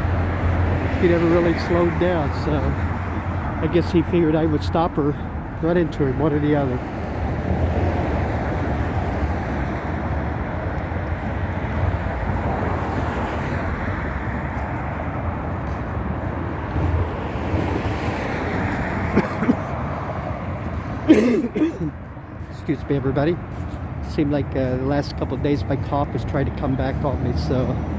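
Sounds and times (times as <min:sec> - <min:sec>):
road traffic: 0:00.0 - 0:27.9.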